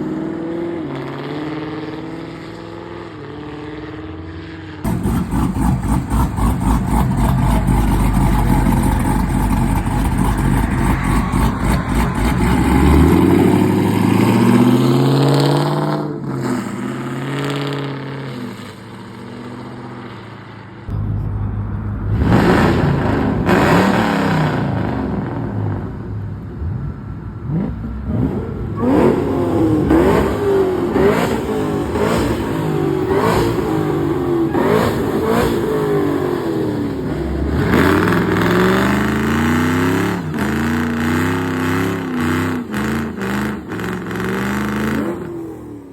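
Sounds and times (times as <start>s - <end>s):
car engines accelerating hard: 0.0s - 45.9s.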